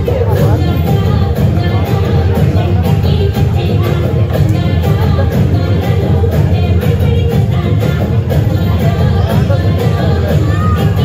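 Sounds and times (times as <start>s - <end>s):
dance song with singing: 0.0s - 11.0s
heavy bass beat: 0.0s - 11.0s.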